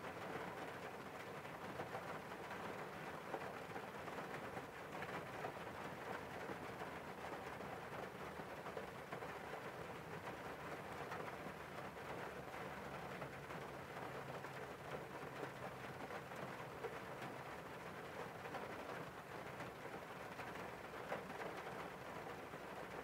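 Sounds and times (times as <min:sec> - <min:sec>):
rain on car windscreen: 0:00.0 - 0:23.0.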